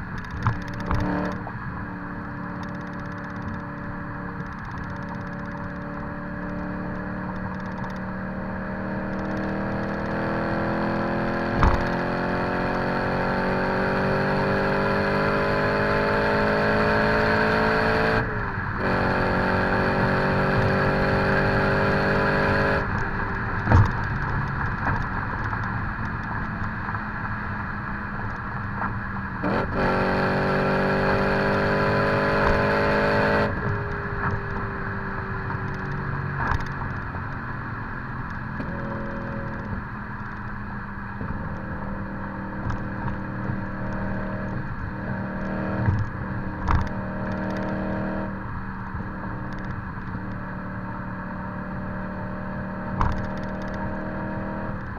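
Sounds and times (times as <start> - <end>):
car engine accelerating hard: 0.0 - 54.9.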